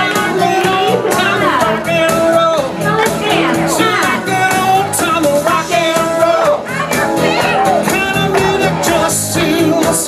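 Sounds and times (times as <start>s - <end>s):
rock music with singing: 0.0s - 10.0s.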